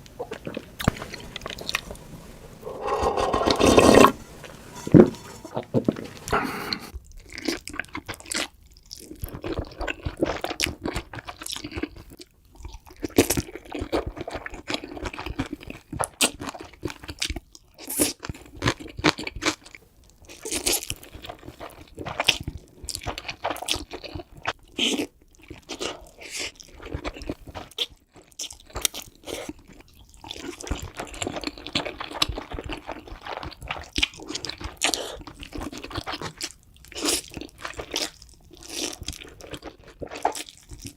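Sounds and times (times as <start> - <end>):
person chewing crunchy food: 5.5 - 40.9.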